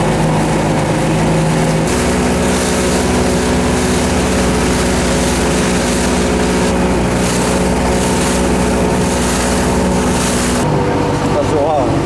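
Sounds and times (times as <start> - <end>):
rushing water and wind: 0.0 - 11.3
motorboat engine humming: 0.0 - 12.0.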